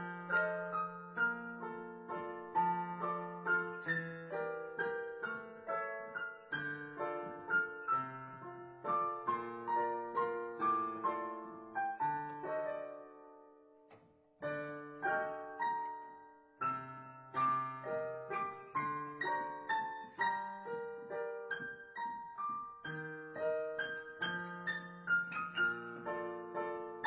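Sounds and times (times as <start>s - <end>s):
digital piano melody: 0.0s - 27.0s.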